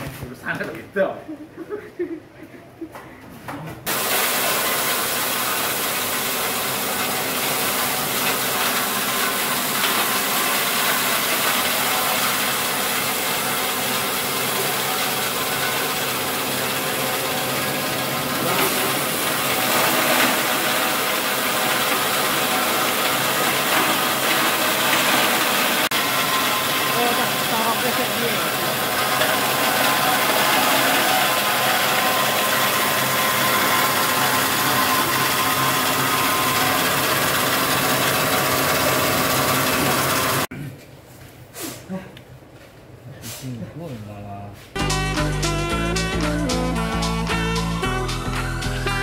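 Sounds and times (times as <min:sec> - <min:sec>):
grinding machine running: 0:03.9 - 0:40.5, 0:44.8 - 0:49.0.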